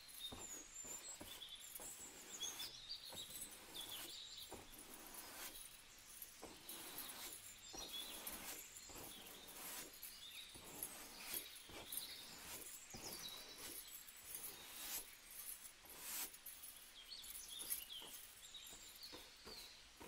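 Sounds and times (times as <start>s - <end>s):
small birds chirping: 0.0s - 20.0s
soft clicks and rustles: 0.0s - 20.0s.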